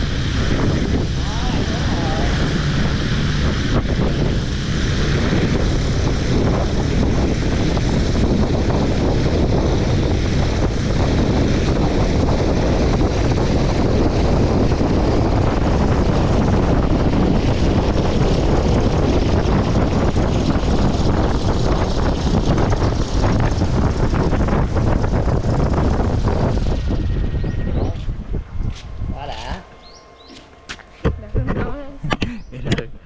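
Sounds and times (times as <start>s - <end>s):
drone rotors droning: 0.0s - 33.0s
wind buffeting microphone: 0.0s - 33.0s.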